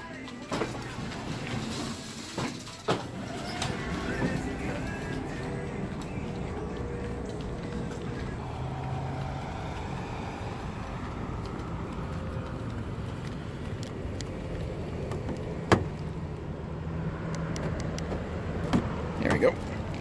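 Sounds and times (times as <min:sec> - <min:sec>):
traffic and engine hum: 0:00.0 - 0:20.0.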